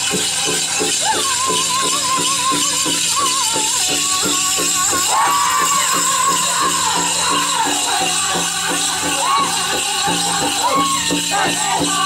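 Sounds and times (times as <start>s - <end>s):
big drum beating steadily: 0.0s - 12.0s
group of voices singing: 0.0s - 12.0s
steady jingling: 0.0s - 12.0s.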